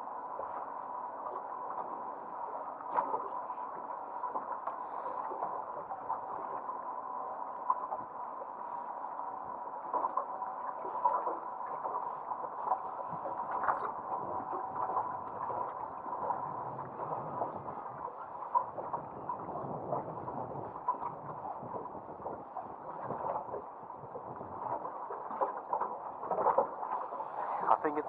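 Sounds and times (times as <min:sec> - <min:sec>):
faint steady hum: 0:00.0 - 0:28.0
water lapping against boat hull: 0:00.3 - 0:06.9, 0:07.6 - 0:28.0.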